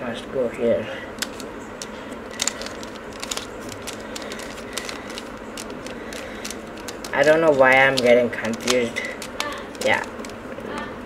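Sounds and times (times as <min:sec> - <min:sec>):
puzzle cube clicking: 0:01.2 - 0:10.4.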